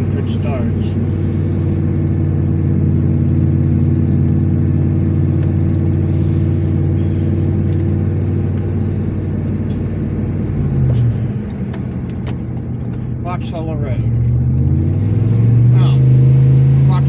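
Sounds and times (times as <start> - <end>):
car engine and tyre drone: 0.0 - 17.0.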